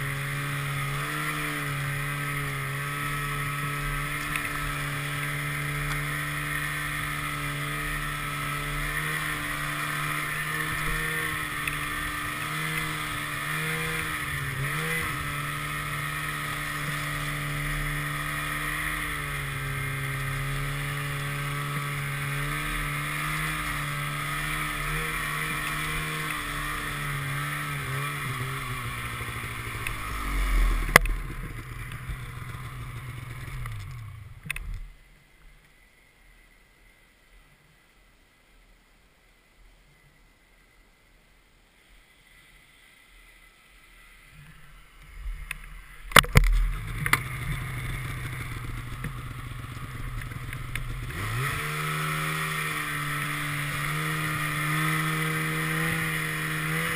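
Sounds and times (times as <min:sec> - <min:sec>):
snowmobile engine revving: 0:00.0 - 0:34.6, 0:45.8 - 0:56.9.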